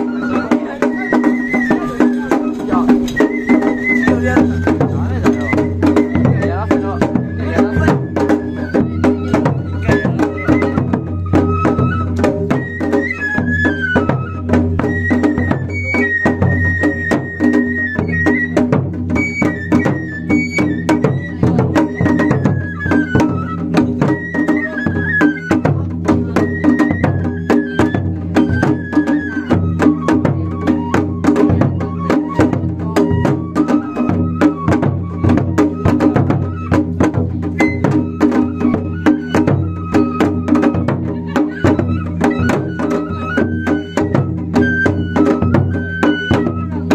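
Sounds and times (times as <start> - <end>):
bamboo flute melody: 0.0 - 46.9
taiko drum beaten hard: 0.0 - 46.9.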